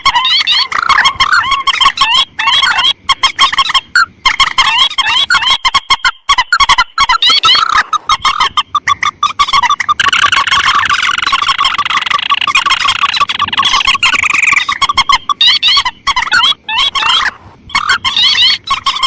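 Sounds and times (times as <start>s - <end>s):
rail and crake calls: 0.0s - 19.0s.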